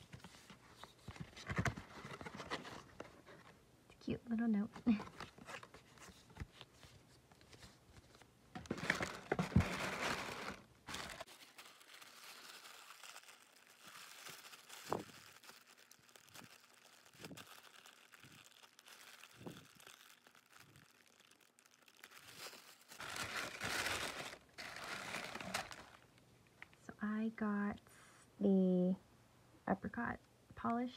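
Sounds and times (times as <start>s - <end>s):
paper rustling and crinkling: 0.0s - 3.6s, 4.8s - 26.1s.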